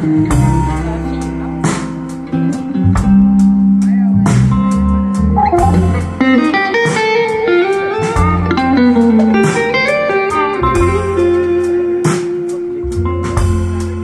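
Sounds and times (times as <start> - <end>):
bass: 0.0 - 14.0
drums: 0.0 - 14.0
electric guitar lead: 0.0 - 14.0.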